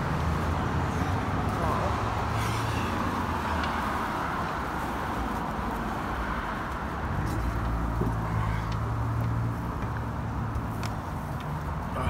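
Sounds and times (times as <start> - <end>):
road traffic noise: 0.0 - 12.0
vehicle engine hum: 0.0 - 12.0.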